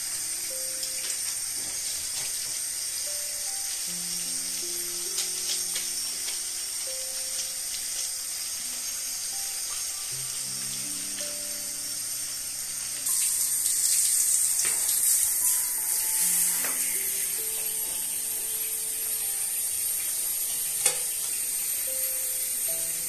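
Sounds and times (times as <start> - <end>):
shower spraying onto tiled floor: 0.0 - 23.0
soft background music: 0.0 - 23.0.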